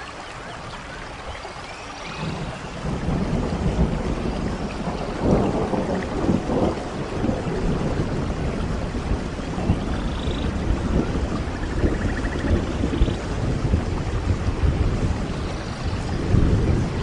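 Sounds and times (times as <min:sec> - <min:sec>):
steady rain: 0:00.0 - 0:17.0
rolling thunder: 0:02.1 - 0:17.0.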